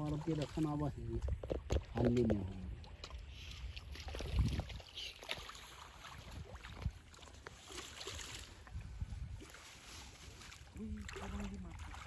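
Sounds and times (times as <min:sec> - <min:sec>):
pond water sloshing and splashing: 0:00.0 - 0:12.0
small splashes and knocks: 0:00.0 - 0:12.0.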